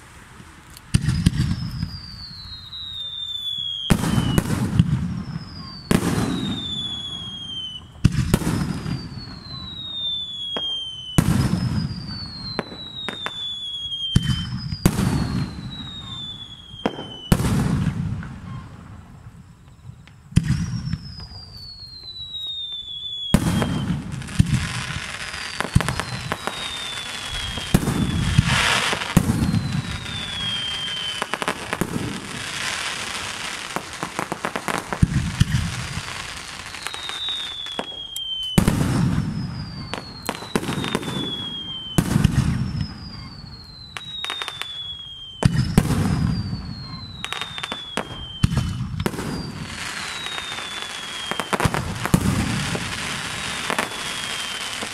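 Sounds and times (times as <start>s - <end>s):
falling firework whistle: 0.0s - 54.9s
fireworks booming and cracking: 0.0s - 54.9s.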